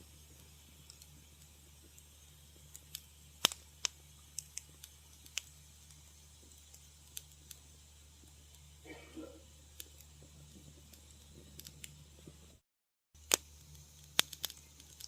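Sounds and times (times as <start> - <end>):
faint low hum: 0.0 - 12.6
wood fire crackling: 0.0 - 12.6, 13.2 - 15.0.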